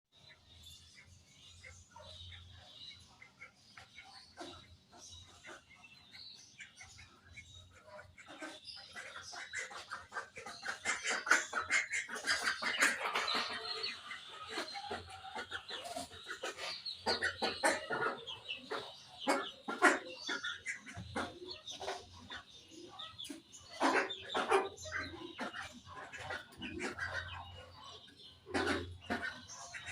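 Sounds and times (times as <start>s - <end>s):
budgerigars chirping: 0.2s - 29.9s.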